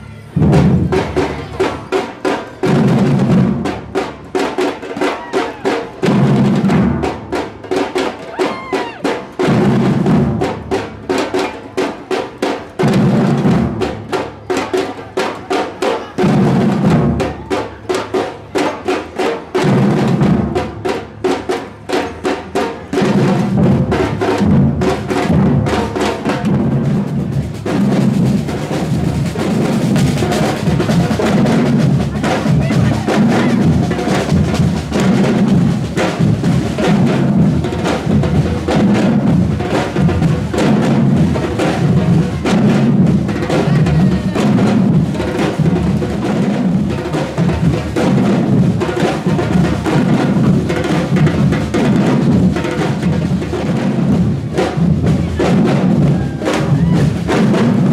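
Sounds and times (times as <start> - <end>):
snare drum strokes: 0.4 - 57.9.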